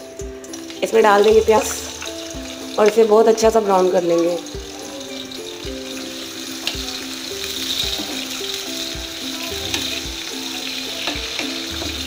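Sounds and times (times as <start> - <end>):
background music with steady beat: 0.0 - 12.0
onions sizzling in hot oil: 0.0 - 12.0.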